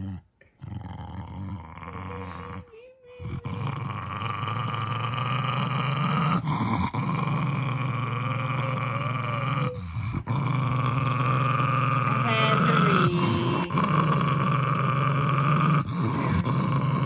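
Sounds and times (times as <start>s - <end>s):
dog growling low: 0.0s - 17.0s.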